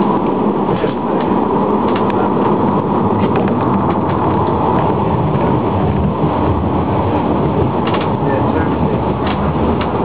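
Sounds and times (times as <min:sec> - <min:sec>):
tram wheels and motors: 0:00.0 - 0:10.0.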